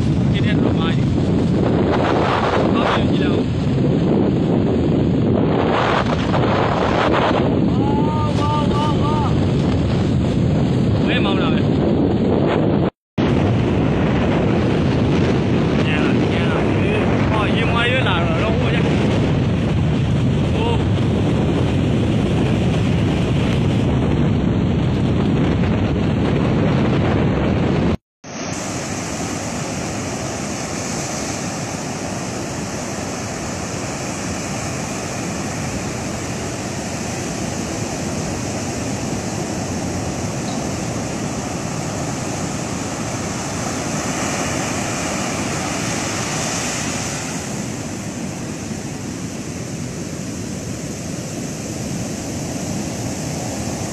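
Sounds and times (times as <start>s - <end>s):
waves crashing over rocks: 0.0s - 11.7s, 13.2s - 53.9s
storm surf breaking: 0.0s - 53.9s
wind buffeting microphone: 0.0s - 53.9s.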